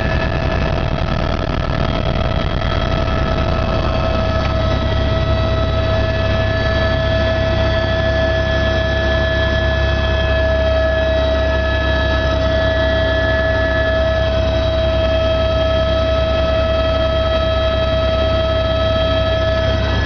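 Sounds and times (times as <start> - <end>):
helicopter rotor drone: 0.0 - 20.0
helicopter turbine whine: 0.0 - 20.0.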